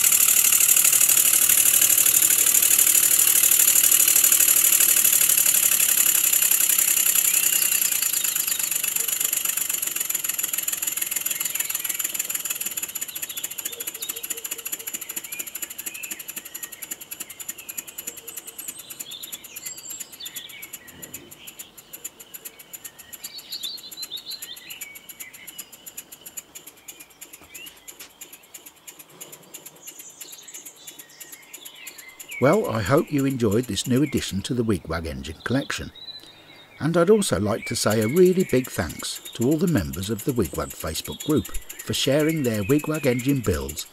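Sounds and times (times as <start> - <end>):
model engine chuffing: 0.0 - 43.9
faint bird chirps: 7.0 - 43.9.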